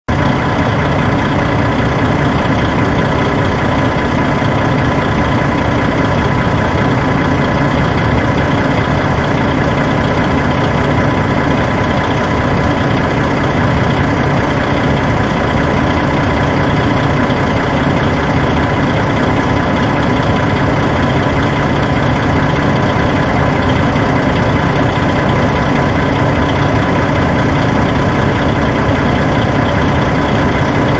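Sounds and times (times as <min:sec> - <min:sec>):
bus engine idling: 0:00.1 - 0:30.9.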